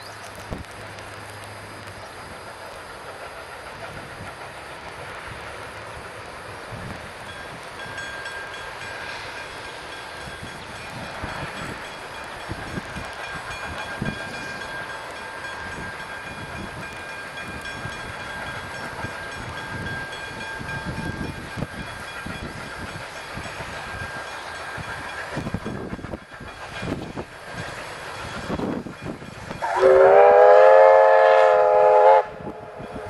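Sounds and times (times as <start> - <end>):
steam hissing: 0.4 - 33.0
steam locomotive exhaust chuffing: 0.6 - 33.0.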